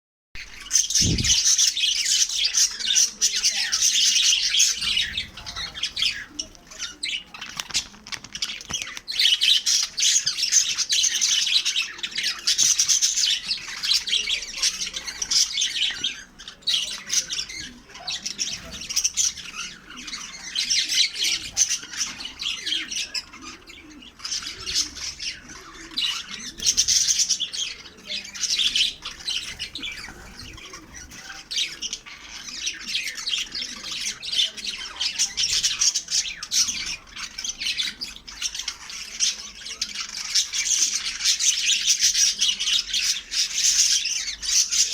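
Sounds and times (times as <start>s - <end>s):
lovebirds chattering and squawking: 0.4s - 44.9s.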